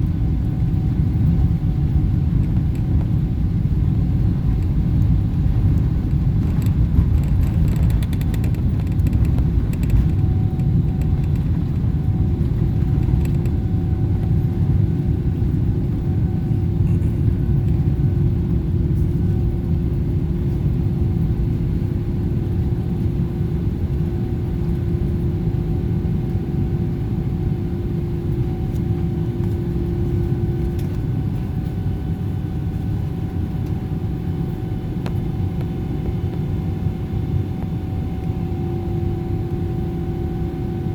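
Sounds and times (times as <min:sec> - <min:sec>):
jet engine rumble in cabin: 0:00.0 - 0:40.9.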